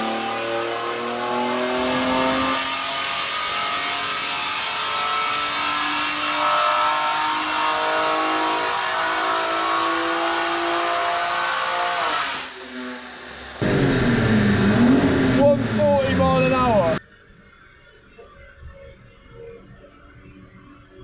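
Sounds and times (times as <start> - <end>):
car engine revving at full throttle: 0.0 - 17.0.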